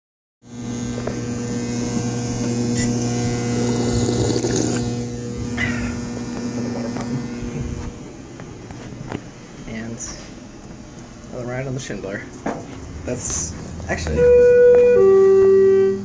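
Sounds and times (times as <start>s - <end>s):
chiller humming: 0.4s - 16.0s.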